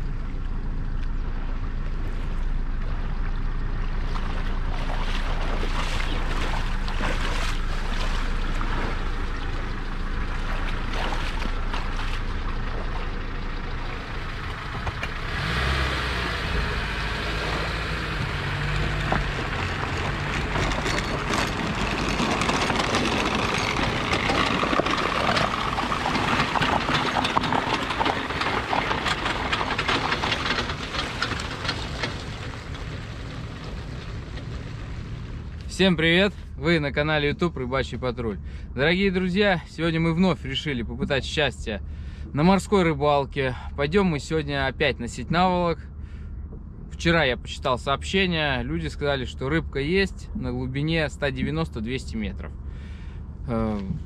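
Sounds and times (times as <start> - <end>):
boat engine running: 0.0 - 47.3.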